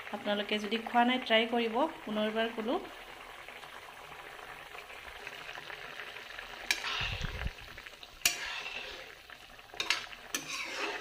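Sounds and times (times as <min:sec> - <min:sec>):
curry bubbling in pan: 0:00.0 - 0:11.0.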